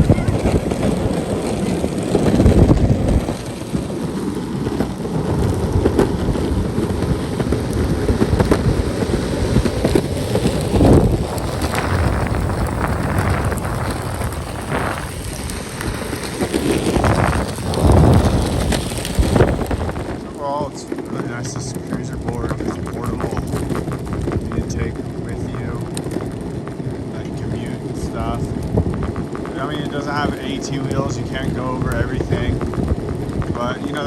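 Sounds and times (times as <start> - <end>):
skateboard wheels rolling on pavement: 0.0 - 34.0
wind buffeting microphone: 0.0 - 34.0.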